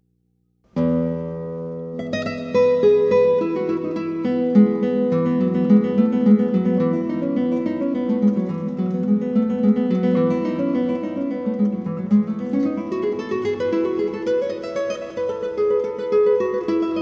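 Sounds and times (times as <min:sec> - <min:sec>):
acoustic guitar music: 0:00.7 - 0:17.0.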